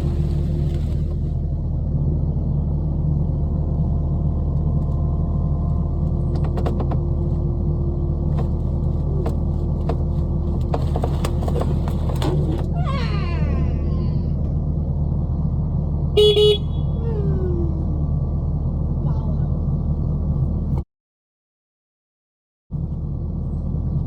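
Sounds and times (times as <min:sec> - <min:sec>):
engine humming: 0:00.0 - 0:20.8.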